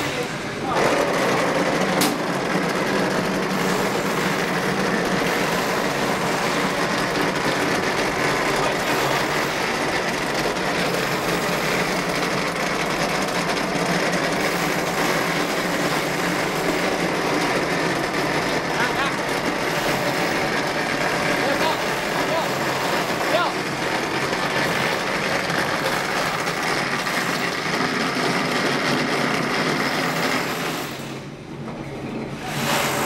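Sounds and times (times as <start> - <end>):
machine mechanical clatter: 0.0 - 33.0.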